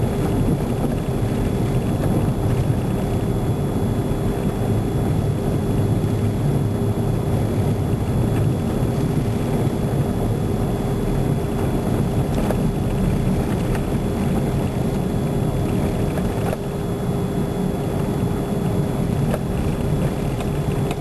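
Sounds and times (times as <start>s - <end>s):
car engine and road rumble: 0.0s - 21.0s
constant hum: 0.0s - 21.0s.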